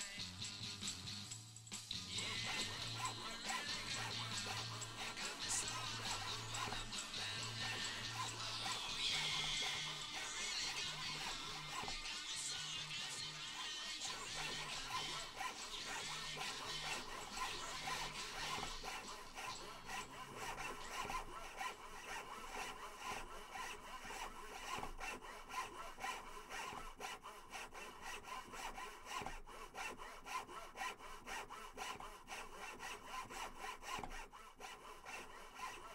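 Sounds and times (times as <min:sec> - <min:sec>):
rapid rasping strokes: 0:01.7 - 0:35.9.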